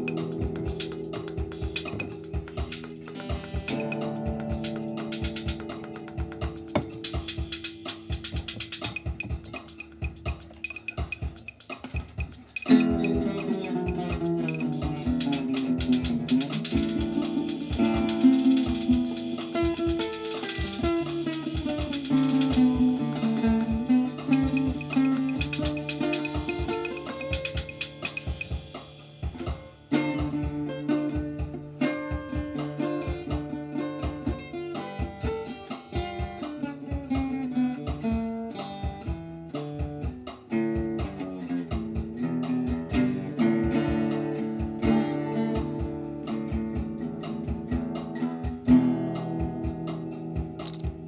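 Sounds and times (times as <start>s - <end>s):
guitar plucked and strummed: 0.0s - 51.0s.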